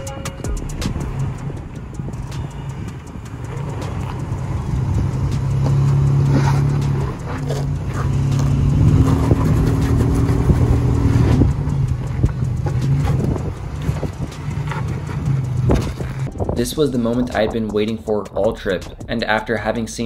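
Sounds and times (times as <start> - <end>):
engine revving under load: 0.0 - 17.8.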